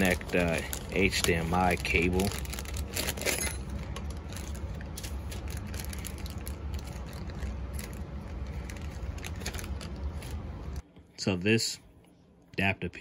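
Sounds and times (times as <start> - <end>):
plastic bag rustling: 0.0 - 10.8
steady low hum: 0.0 - 13.0.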